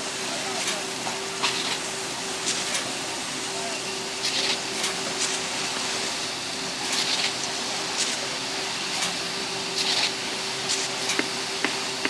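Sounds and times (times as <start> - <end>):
construction machinery humming: 0.0 - 12.0.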